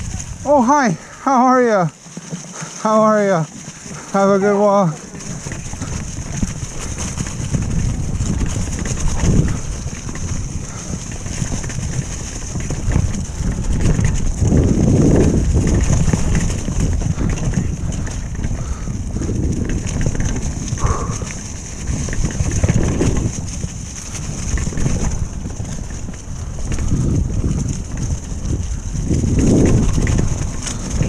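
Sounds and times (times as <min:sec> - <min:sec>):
bike clattering over bumps: 0:00.0 - 0:31.0
bike tyres rolling over leaves: 0:00.0 - 0:31.0
wind rumbling on microphone: 0:00.0 - 0:31.0.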